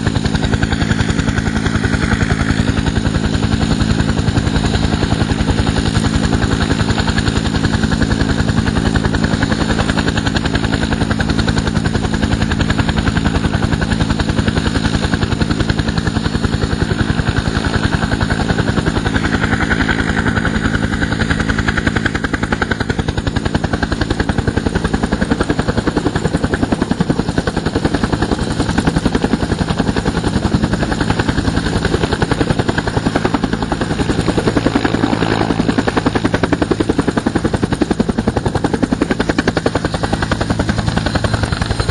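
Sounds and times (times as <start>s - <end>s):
helicopter engine: 0.0s - 41.9s
helicopter rotor beat: 0.0s - 41.9s.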